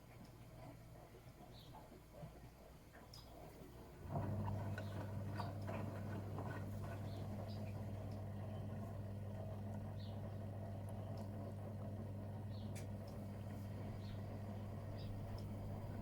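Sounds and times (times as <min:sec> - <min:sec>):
washing machine hum: 0:00.0 - 0:16.0.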